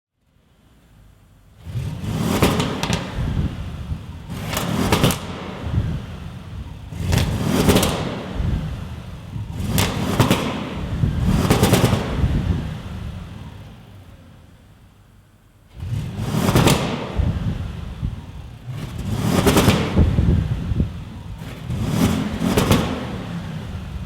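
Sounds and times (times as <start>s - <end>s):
car engine revving: 1.2s - 14.9s, 15.7s - 24.0s.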